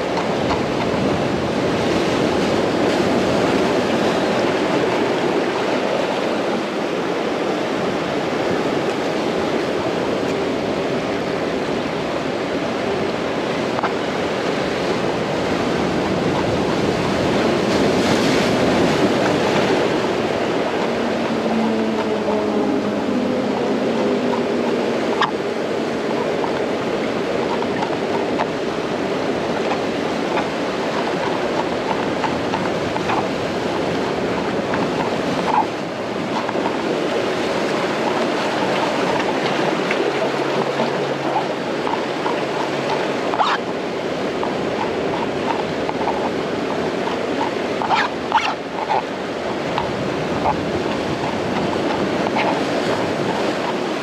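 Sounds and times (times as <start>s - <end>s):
sea surf breaking on shore: 0.0s - 54.0s.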